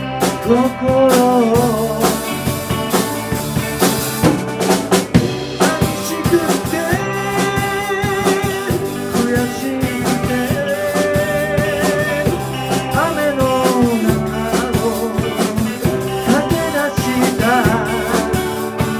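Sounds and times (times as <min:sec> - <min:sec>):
drum kit snare and bass drum: 0:00.0 - 0:18.9
rock band playing: 0:00.0 - 0:18.9.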